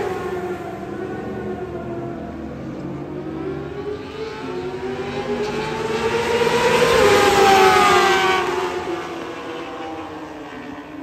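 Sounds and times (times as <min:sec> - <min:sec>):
racing motorcycles passing: 0:00.0 - 0:11.0.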